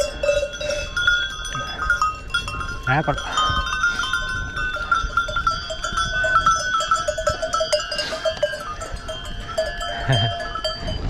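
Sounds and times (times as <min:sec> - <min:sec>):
goat bells clanking: 0:00.0 - 0:11.0.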